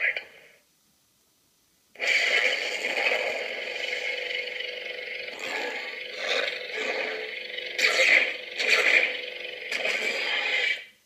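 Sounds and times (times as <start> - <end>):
lightsaber blade hum: 2.0 - 10.9
lightsaber ignition: 2.0 - 10.9.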